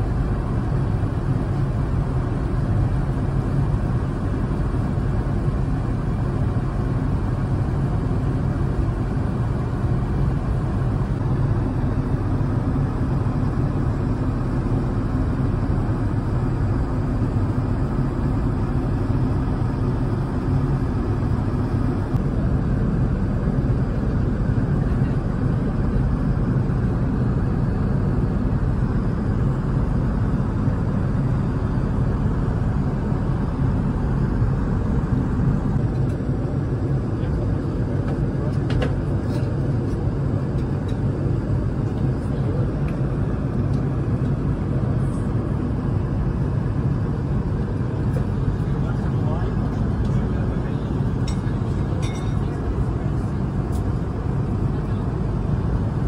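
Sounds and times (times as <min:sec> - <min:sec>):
airplane cabin noise: 0:00.0 - 0:56.0.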